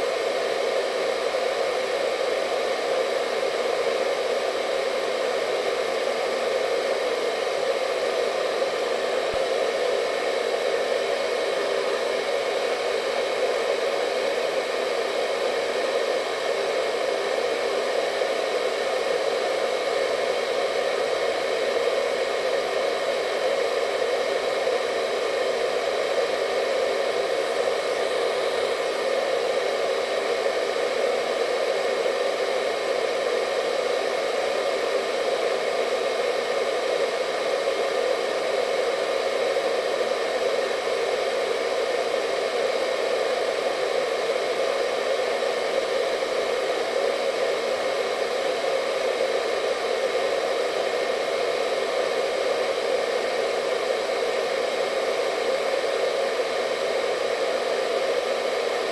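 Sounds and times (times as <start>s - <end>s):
hair dryer motor whine: 0.0s - 58.9s
hair dryer whooshing: 0.0s - 58.9s.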